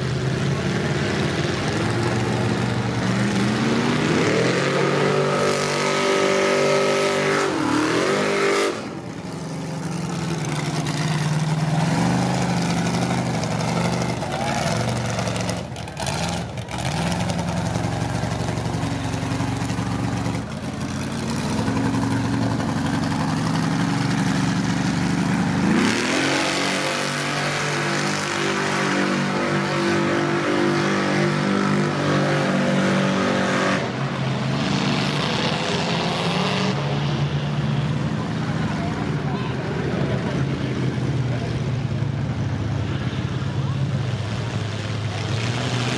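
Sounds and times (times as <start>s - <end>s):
truck engines revving in mud: 0.0s - 45.9s.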